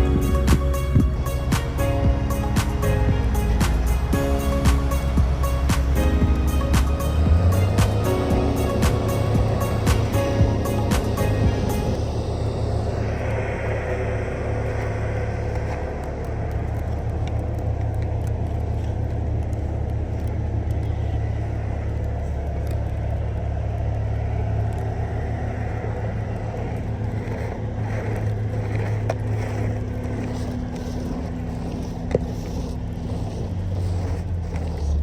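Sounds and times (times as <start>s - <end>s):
car engine low rumble: 0.0s - 35.0s.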